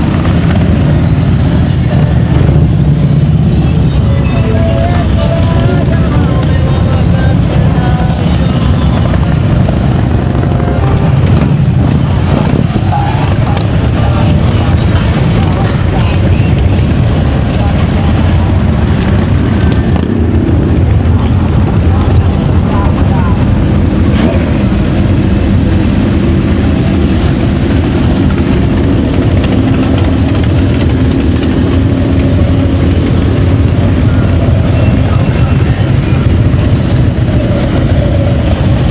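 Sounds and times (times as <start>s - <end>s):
vehicle engines rumbling: 0.0s - 38.9s.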